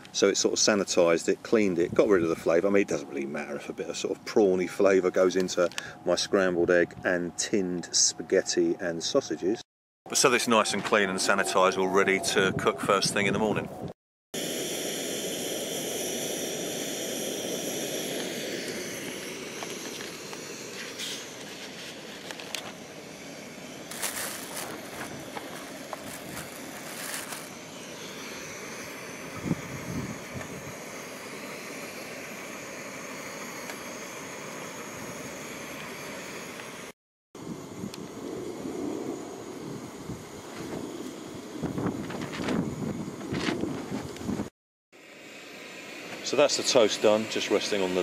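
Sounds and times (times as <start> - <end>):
camp stove burner roaring: 0.0 - 6.5, 14.4 - 48.0.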